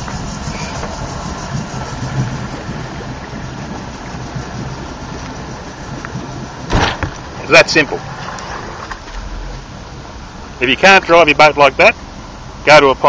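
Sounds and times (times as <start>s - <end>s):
motorboat engine idling: 0.0s - 13.0s.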